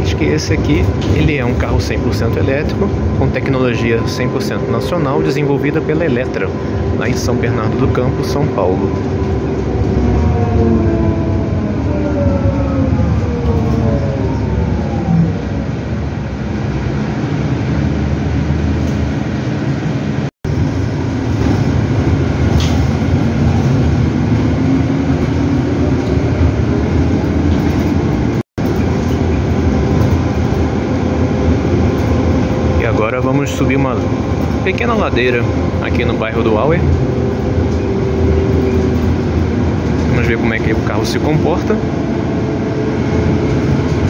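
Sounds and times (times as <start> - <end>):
road and body rumble: 0.0 - 44.0.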